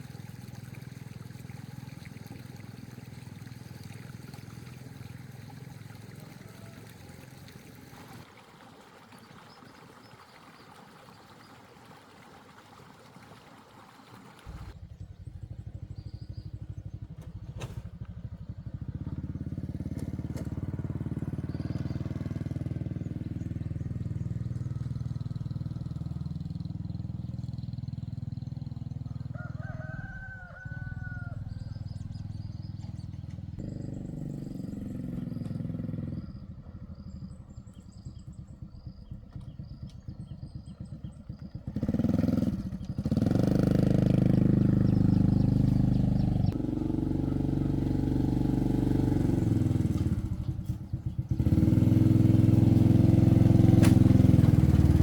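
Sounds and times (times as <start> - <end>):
engine chugging: 0.0 - 8.3, 14.5 - 55.0.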